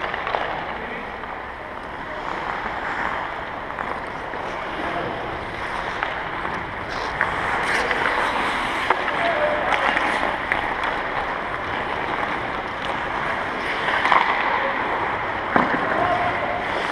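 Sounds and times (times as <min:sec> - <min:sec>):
hockey sticks and pucks clacking: 0:00.0 - 0:16.9
skate blades scraping ice: 0:01.8 - 0:16.9.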